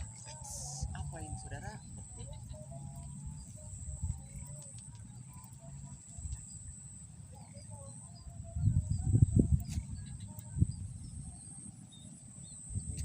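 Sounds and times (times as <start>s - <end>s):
small birds chirping: 0.0s - 13.0s
steady high-pitched whine: 0.0s - 13.0s.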